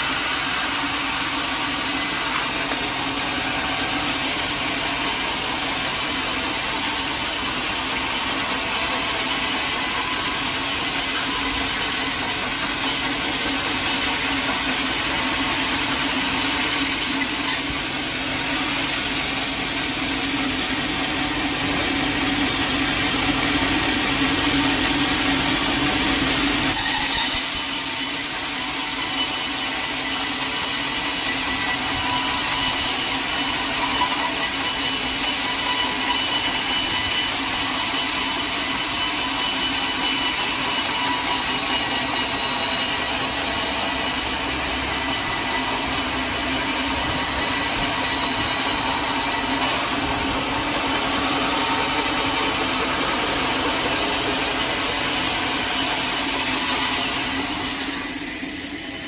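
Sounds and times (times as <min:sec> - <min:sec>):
sawmill saw cutting a log: 0:00.0 - 0:59.0.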